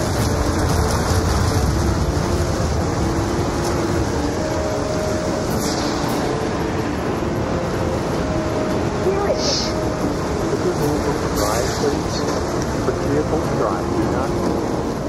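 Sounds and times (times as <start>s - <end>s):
tornado roaring: 0.0s - 15.0s.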